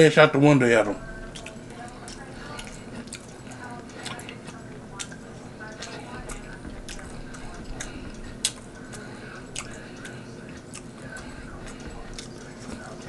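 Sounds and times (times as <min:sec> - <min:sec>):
person chewing food: 0:00.8 - 0:13.0
wet mouth clicks and smacks: 0:01.2 - 0:13.0.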